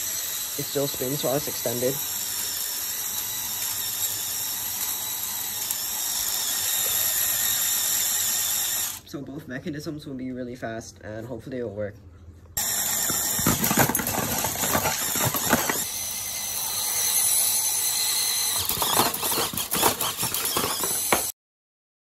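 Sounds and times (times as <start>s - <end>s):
high-pitched motor whine: 0.0s - 9.1s, 12.6s - 21.3s.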